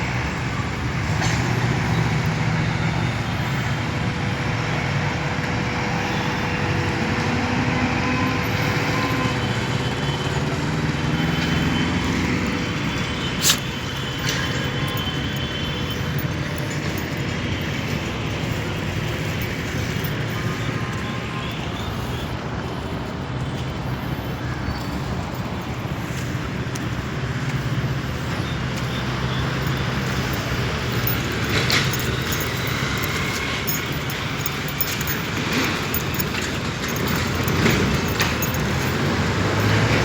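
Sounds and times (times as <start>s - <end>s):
vehicle running hum: 0.0s - 40.0s.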